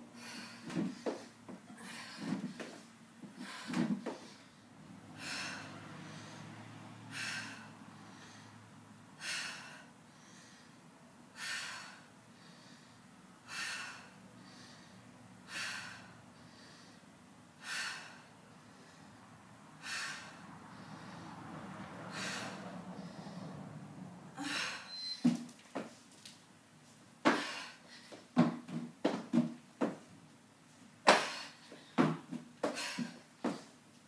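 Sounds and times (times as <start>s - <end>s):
woman breathing hard: 0.0s - 25.1s, 27.3s - 28.4s, 31.1s - 33.8s.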